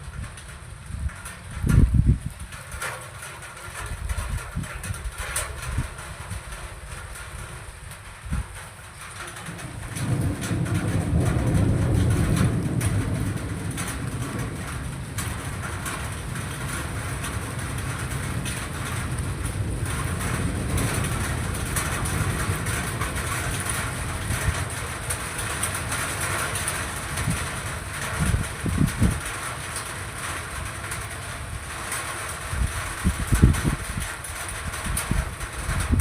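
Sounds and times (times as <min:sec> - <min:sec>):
thunder rumbling: 0:00.0 - 0:36.0.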